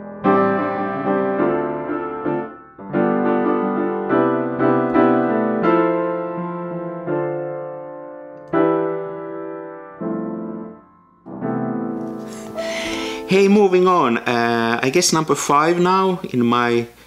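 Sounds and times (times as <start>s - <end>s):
piano chords: 0.0s - 15.8s.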